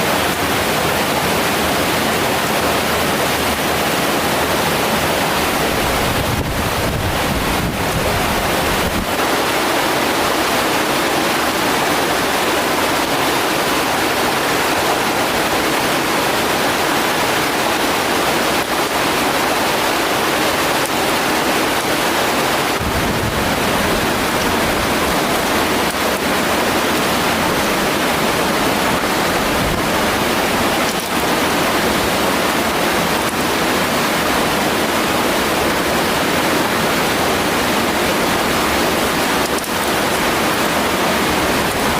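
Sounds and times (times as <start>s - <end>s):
mountain stream rushing: 0.0s - 41.9s.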